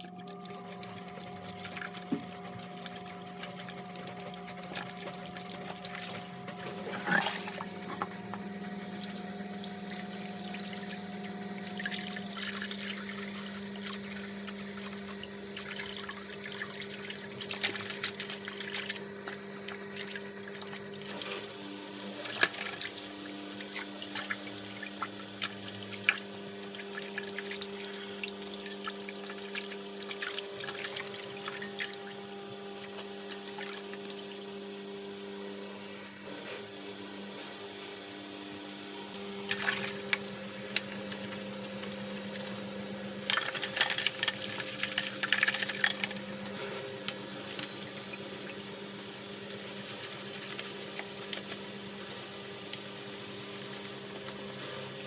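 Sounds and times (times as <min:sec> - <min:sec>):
tap water running and splashing: 0:00.0 - 0:34.6, 0:39.2 - 0:55.0.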